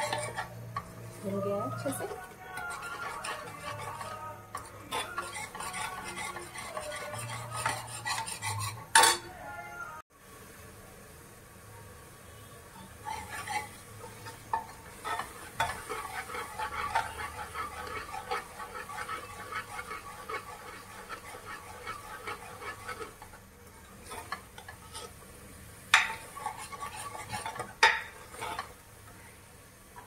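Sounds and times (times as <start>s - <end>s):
spoon scraping cooking pan: 0.0s - 9.3s, 12.8s - 25.3s, 25.9s - 29.2s
light sizzling: 0.0s - 30.0s.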